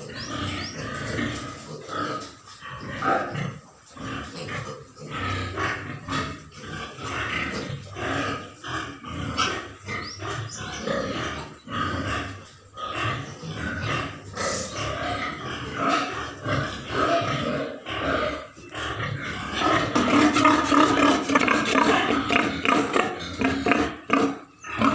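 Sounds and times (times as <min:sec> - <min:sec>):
pig grunting: 0:00.0 - 0:24.9.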